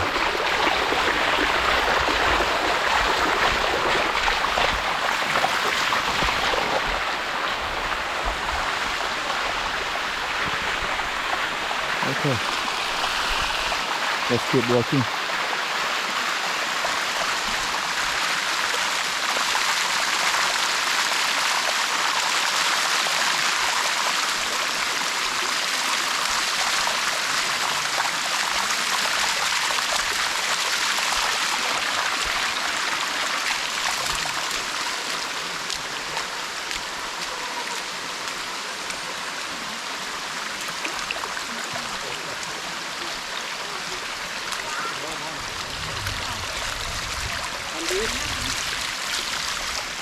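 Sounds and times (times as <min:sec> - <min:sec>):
water rushing down cascade: 0:00.0 - 0:50.0.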